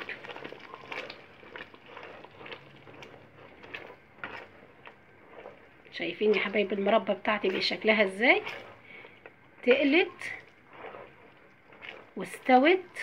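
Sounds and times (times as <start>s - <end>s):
spoon scraping metal pot: 0.0s - 13.0s.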